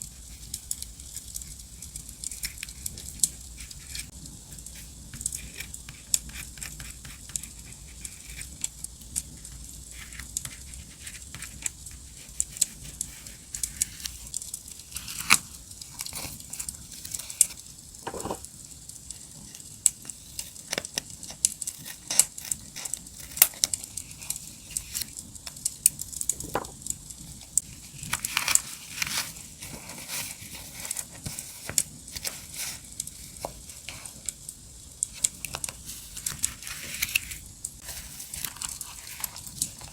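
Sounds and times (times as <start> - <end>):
paper rustling and crinkling: 2.2 - 4.1, 4.8 - 18.4, 20.0 - 25.2, 26.3 - 34.4, 35.1 - 39.9.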